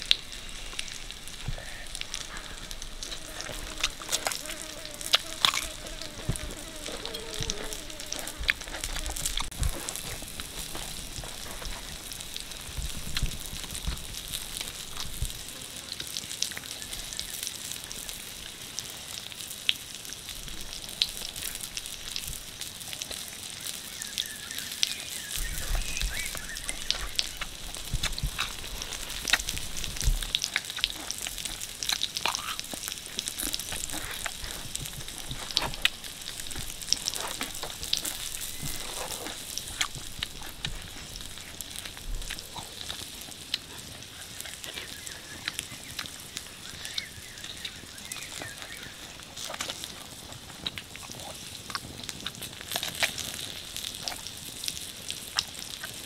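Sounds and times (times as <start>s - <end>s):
close-up eating: 0.0s - 56.0s
steady hiss: 0.0s - 56.0s.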